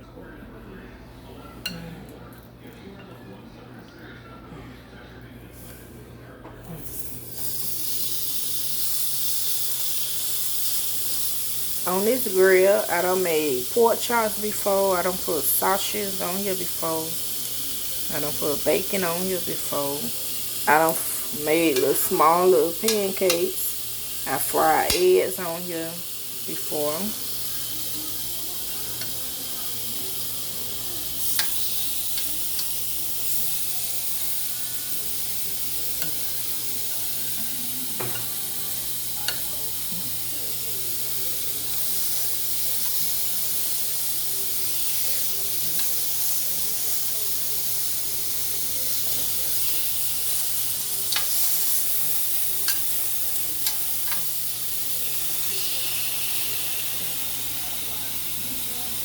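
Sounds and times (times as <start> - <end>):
chicken sizzling on electric grill: 6.4 - 59.0.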